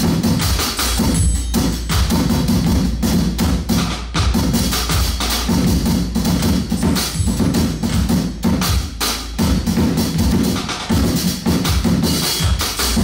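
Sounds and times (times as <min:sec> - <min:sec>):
drum kit groove: 0:00.0 - 0:13.0
kick drum: 0:00.0 - 0:13.0.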